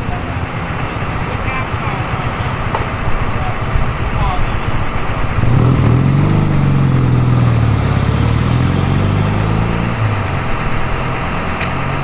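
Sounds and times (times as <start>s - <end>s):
race car engine passing: 0.0s - 12.0s.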